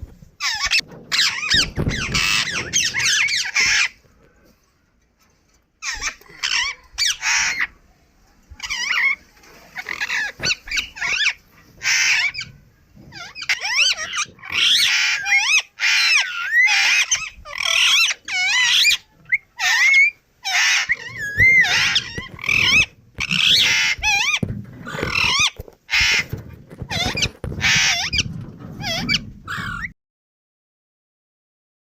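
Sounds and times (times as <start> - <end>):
parrot calling and chattering: 0.4 - 4.0, 5.8 - 7.8, 8.5 - 29.9.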